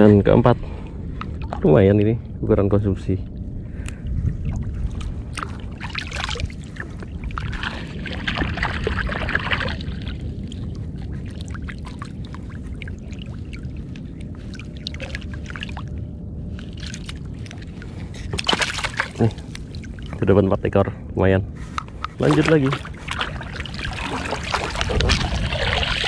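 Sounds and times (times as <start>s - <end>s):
low rumble of wind and chop: 0.0s - 26.0s
water splashing and sloshing: 0.6s - 2.4s, 3.1s - 20.7s, 21.5s - 26.0s.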